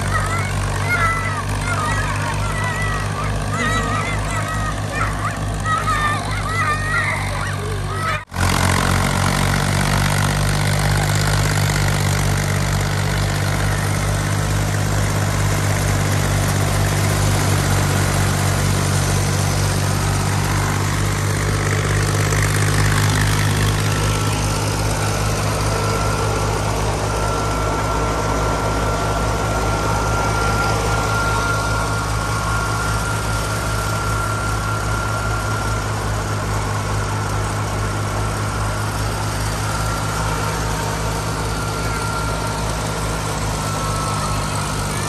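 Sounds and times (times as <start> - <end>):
thresher rushing noise: 0.0 - 45.0
tractor diesel engine running: 0.0 - 45.0.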